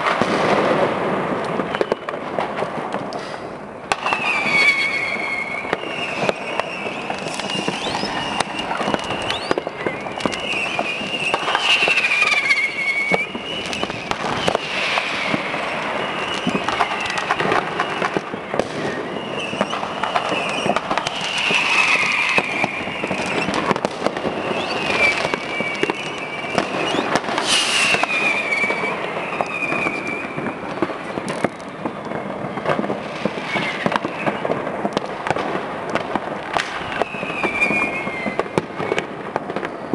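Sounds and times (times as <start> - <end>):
firecrackers banging and crackling: 0.0 - 39.9
whistling fireworks shrieking: 0.0 - 39.9.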